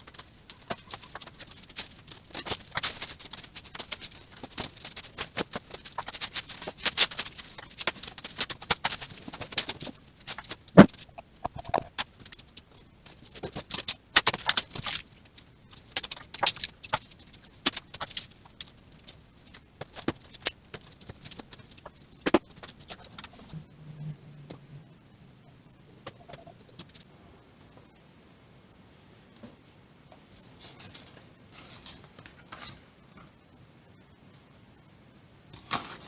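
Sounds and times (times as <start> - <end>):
rustling and crinkling: 0.0 - 23.7, 29.2 - 34.8, 35.5 - 36.0.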